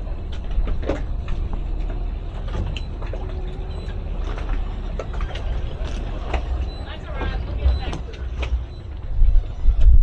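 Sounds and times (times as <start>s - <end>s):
boat engines idling: 0.0s - 10.0s.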